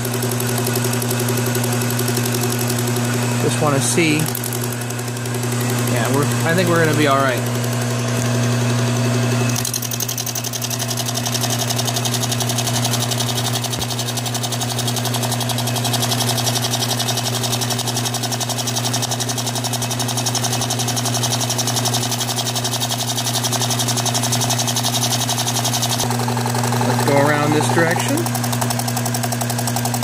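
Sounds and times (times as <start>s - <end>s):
cutter ticking on metal: 0.0s - 30.0s
milling machine motor hum: 0.0s - 30.0s.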